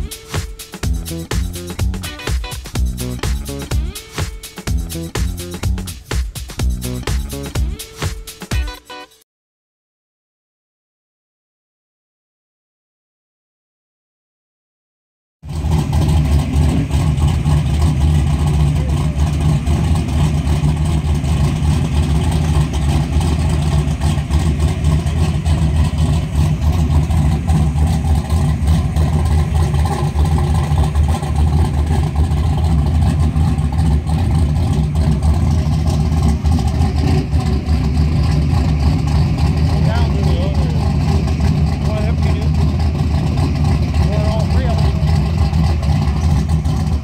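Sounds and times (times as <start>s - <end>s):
loud deep engine idling: 0.0s - 8.0s, 15.4s - 47.0s.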